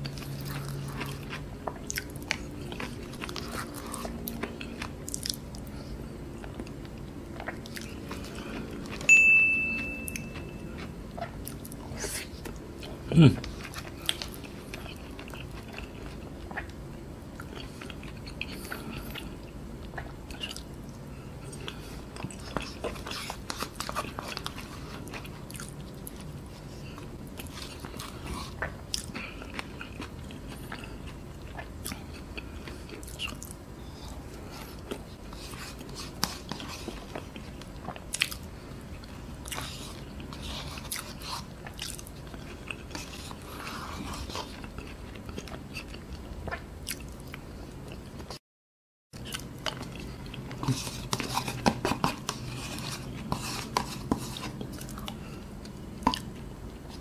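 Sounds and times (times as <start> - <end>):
chewing and wet mouth sounds: 0.0 - 9.1, 9.7 - 48.4, 49.2 - 57.0
low steady hum: 0.0 - 48.4, 49.2 - 57.0.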